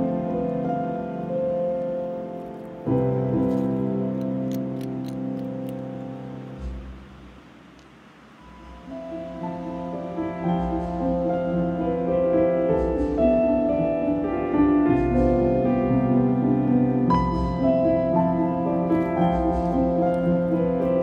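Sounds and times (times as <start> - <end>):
gentle instrumental music: 0.0 - 21.0.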